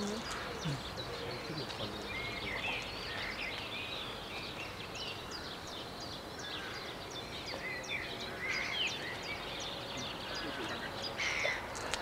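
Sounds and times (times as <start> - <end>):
songbirds chirping and singing: 0.0 - 12.0
town background noise: 0.0 - 12.0.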